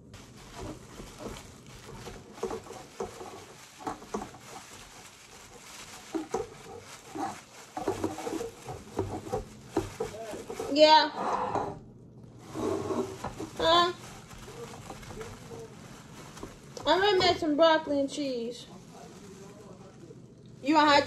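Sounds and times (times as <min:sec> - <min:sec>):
plastic bag crinkling: 0:00.0 - 0:11.0, 0:12.2 - 0:21.0.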